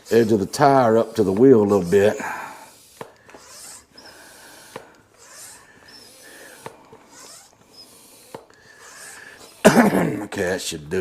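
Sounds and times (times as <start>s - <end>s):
bicycle pump hissing: 0.0s - 10.0s.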